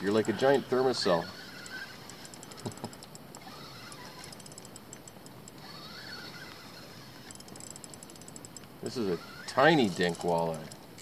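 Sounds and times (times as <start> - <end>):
fishing reel gears ticking: 0.0 - 11.0.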